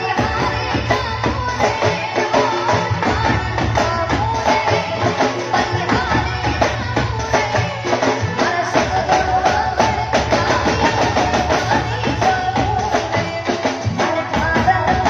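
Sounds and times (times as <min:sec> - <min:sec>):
fast percussion beat: 0:00.0 - 0:15.0.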